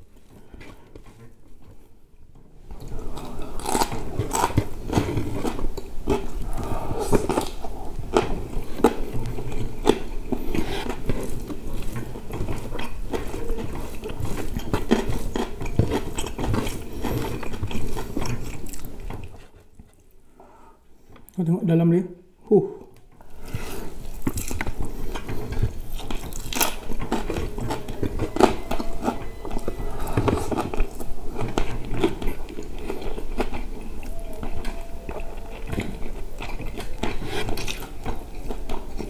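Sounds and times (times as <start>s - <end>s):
wet chewing and mouth smacks: 2.7s - 20.2s, 22.9s - 39.0s.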